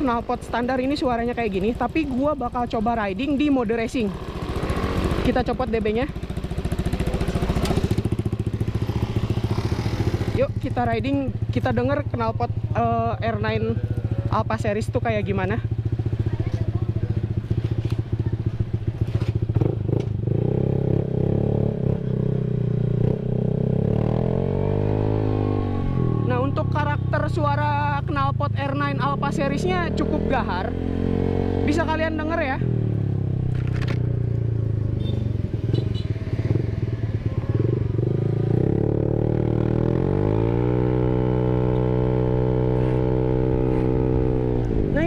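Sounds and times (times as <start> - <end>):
scooter engine revving: 3.2 - 27.1, 28.9 - 45.0.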